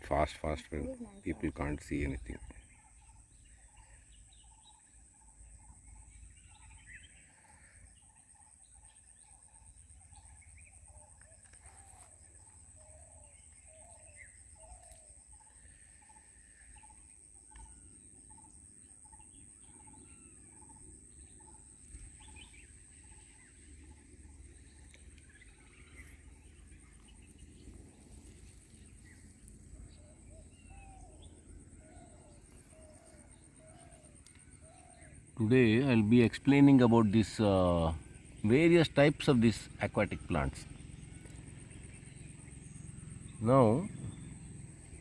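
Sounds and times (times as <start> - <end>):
higher bird chirps: 0.0 - 45.0.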